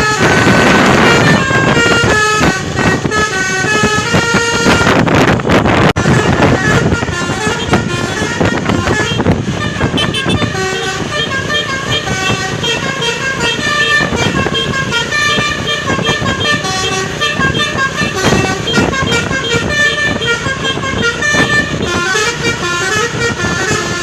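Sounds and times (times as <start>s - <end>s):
musical air horn playing tune: 0.0s - 24.0s.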